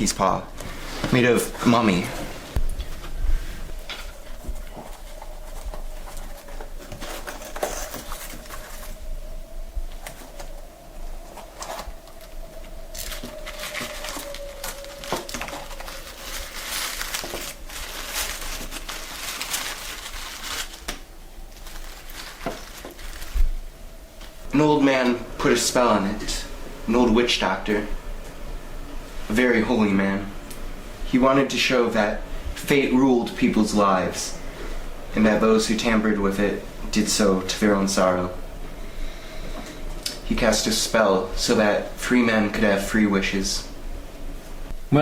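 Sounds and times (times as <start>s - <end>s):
faint steady hum: 0.0s - 45.0s
rustling and handling noise: 0.0s - 45.0s.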